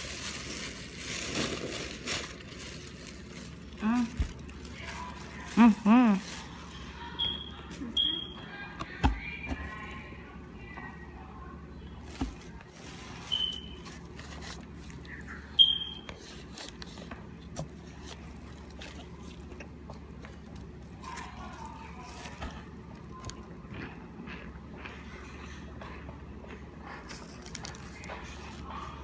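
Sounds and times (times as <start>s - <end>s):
crisp crunching chewing: 0.0s - 10.0s, 12.0s - 29.0s.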